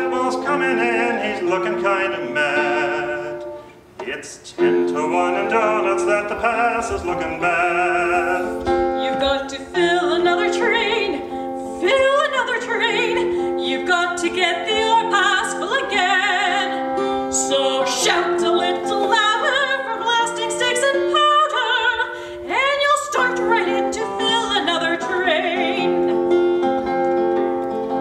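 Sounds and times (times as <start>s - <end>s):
person singing with vibrato: 0.0s - 26.5s
held instrumental chords: 0.0s - 28.0s.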